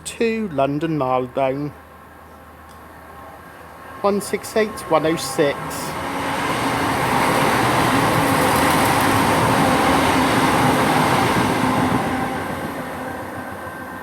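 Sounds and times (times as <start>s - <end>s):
diesel train engine: 0.0s - 14.0s
wheels rushing on rail: 1.8s - 14.0s.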